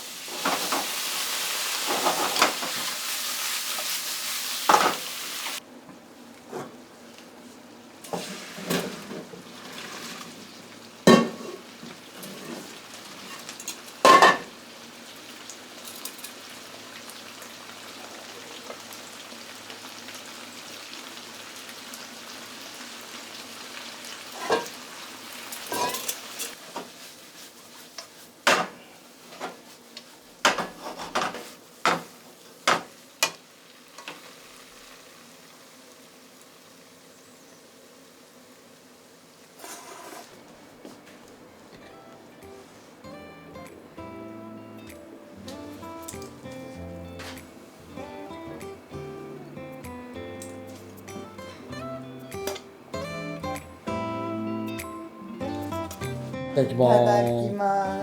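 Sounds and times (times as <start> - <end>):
food sizzling in a frying pan: 0.0 - 5.6, 6.2 - 58.0.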